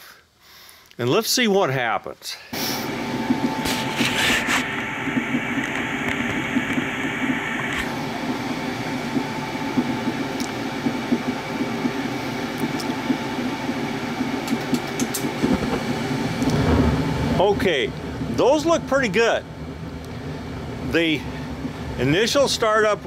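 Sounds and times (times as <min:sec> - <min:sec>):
furnace fan humming: 0:02.2 - 0:23.0
gas burners lighting with a rush: 0:02.6 - 0:23.0.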